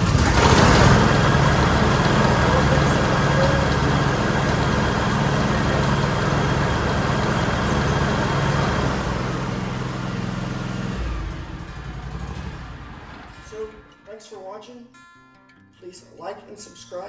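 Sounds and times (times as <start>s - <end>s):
lawn tractor engine running: 0.0s - 13.8s.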